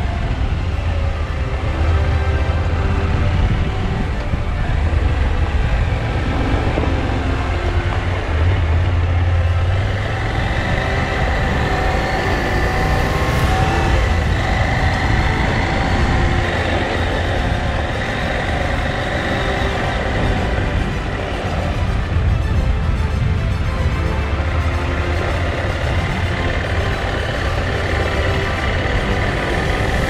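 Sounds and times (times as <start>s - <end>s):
motorcycle engine running: 0.0s - 30.0s
wind noise: 0.0s - 30.0s.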